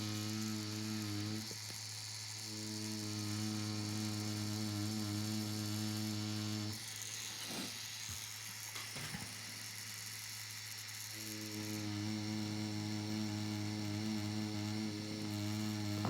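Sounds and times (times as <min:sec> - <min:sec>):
tattoo machine buzzing: 0:00.0 - 0:16.0.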